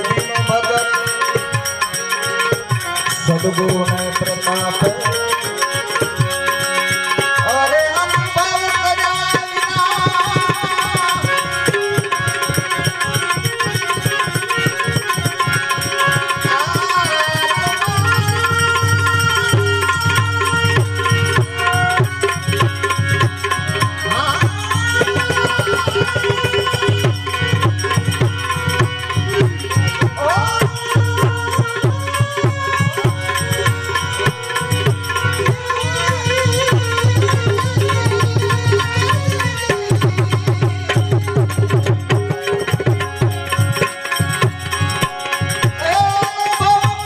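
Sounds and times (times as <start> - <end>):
tabla rhythm: 0.0 - 47.0.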